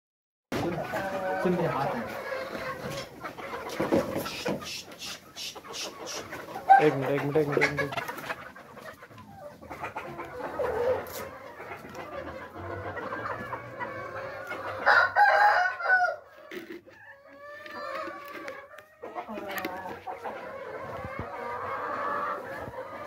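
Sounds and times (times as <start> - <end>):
chickens clucking: 0.5 - 23.0
chicken drawn-out call: 0.6 - 23.0.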